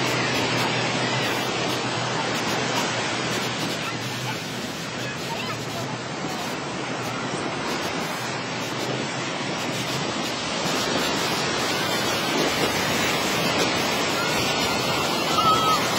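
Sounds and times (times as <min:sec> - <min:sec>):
ocean surf rushing: 0:00.0 - 0:15.9.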